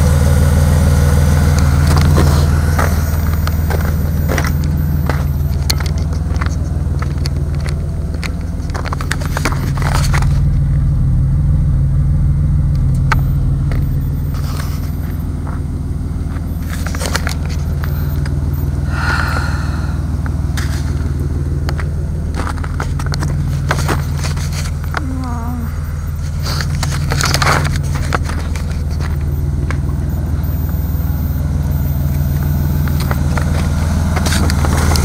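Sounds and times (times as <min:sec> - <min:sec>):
car engine running with knock: 0:00.0 - 0:35.0.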